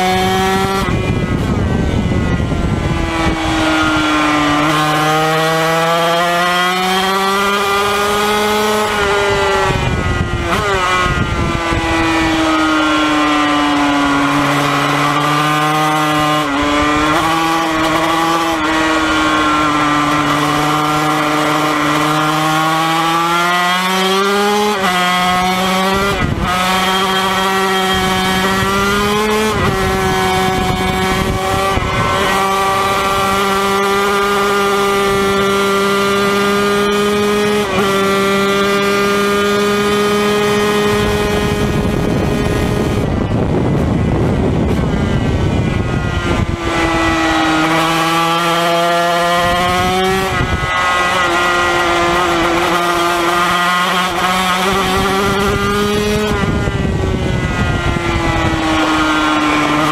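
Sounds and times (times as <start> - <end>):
racing motorcycle engine buzzing: 0.0 - 59.9.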